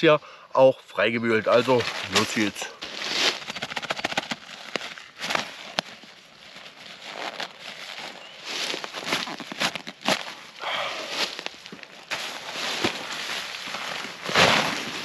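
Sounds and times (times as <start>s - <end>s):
tarp crackling rustle: 1.4s - 15.0s.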